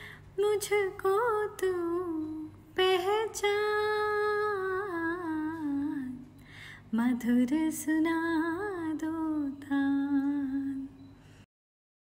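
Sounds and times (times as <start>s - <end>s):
woman singing unaccompanied: 0.0s - 11.2s.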